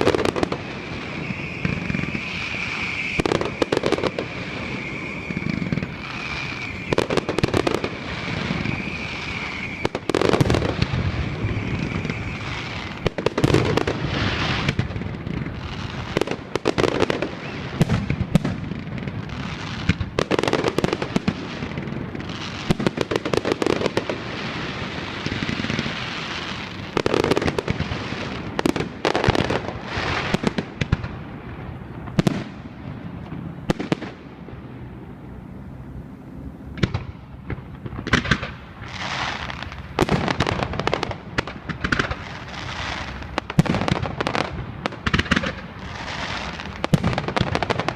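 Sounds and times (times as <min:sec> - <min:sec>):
high firework whistle: 0:00.0 - 0:31.0, 0:38.1 - 0:47.9
firework crackle: 0:00.0 - 0:47.9.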